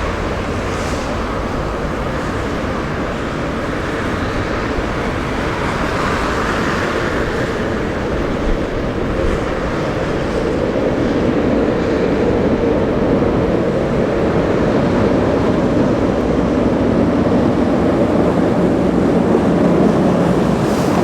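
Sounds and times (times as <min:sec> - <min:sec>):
snow plow truck pushing snow: 0:00.0 - 0:21.0.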